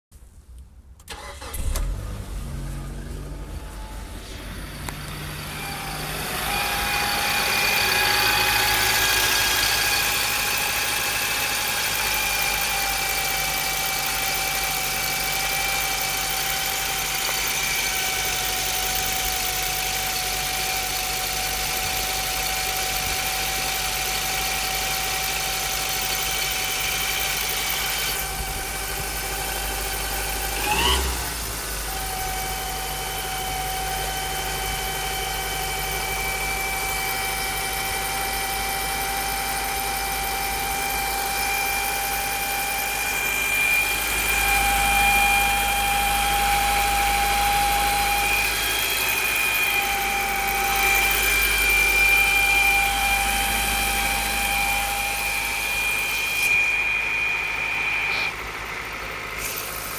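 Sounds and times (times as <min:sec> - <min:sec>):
car engine starting: 0:00.3 - 0:59.9
engine idling with high whine: 0:01.0 - 0:59.9.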